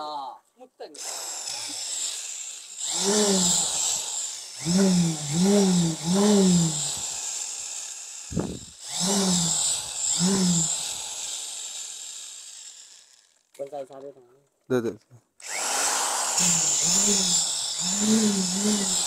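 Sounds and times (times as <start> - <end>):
cordless drill whirring: 1.0 - 13.4, 15.4 - 19.0.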